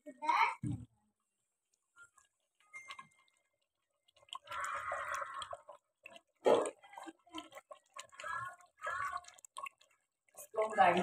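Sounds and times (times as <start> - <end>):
wooden spoon stirring thick curry: 1.6 - 11.0.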